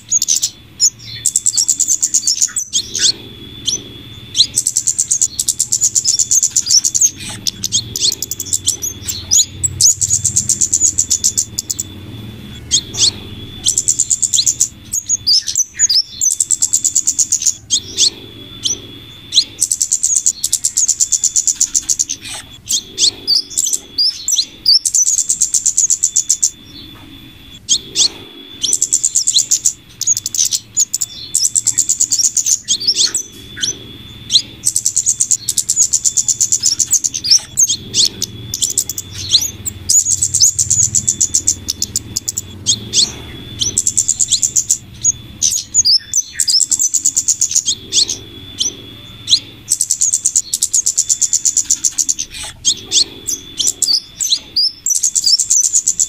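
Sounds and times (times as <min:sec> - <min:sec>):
high ticking bird trills: 0:00.0 - 0:56.0
thin steady high tone: 0:00.0 - 0:56.0.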